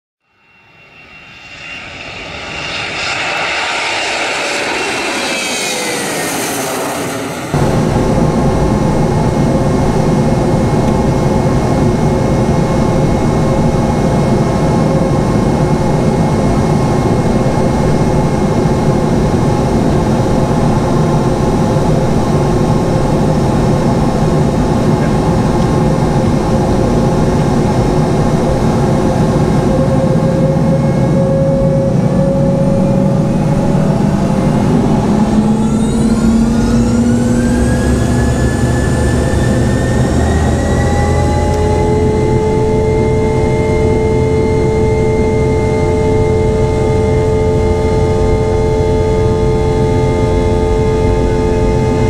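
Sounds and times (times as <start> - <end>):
steady engine whine: 0.2 - 52.0
jet engines running: 0.6 - 52.0.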